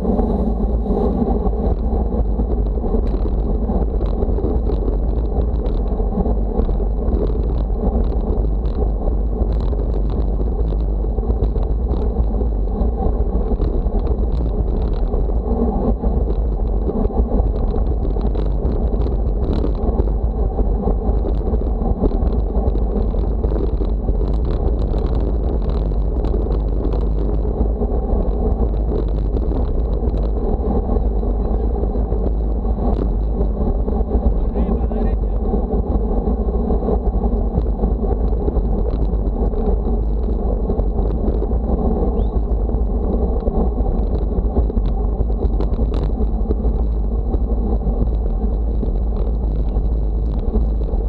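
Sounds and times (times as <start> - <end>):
wind rumble on the microphone: 0.0 - 51.0.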